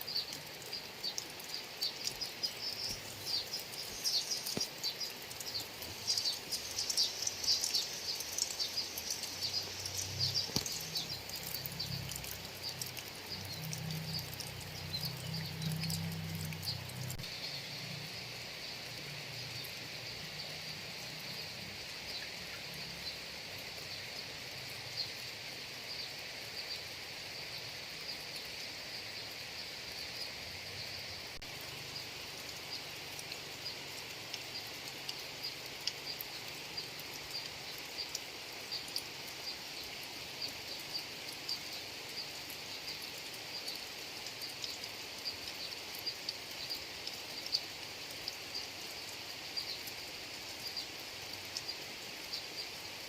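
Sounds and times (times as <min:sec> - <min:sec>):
sharp raindrop ticks: 0:00.0 - 0:25.3, 0:31.3 - 0:52.8
steady rain falling: 0:00.0 - 0:53.0.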